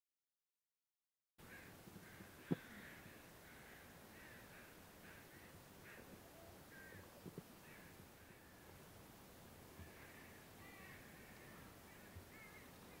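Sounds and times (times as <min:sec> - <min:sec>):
crows cawing faintly: 0:01.4 - 0:09.0, 0:09.6 - 0:13.0.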